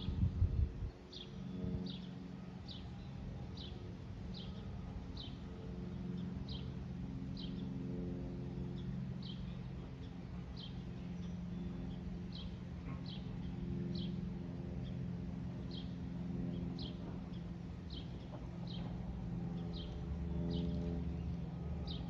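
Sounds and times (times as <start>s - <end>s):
distant aircraft engine drone: 0.0s - 22.0s.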